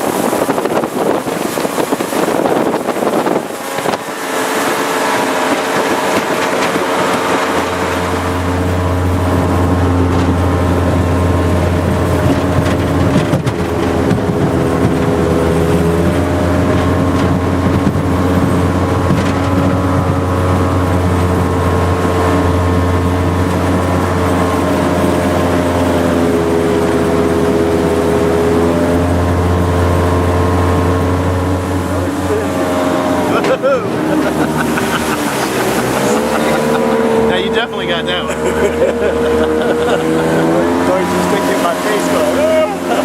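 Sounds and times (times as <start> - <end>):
jet boat engine running: 0.0 - 43.0.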